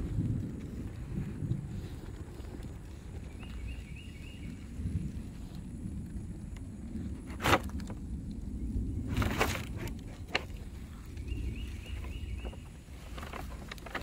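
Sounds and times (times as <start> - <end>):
low rumble: 0.0 - 13.9
fire crackling: 0.0 - 14.0.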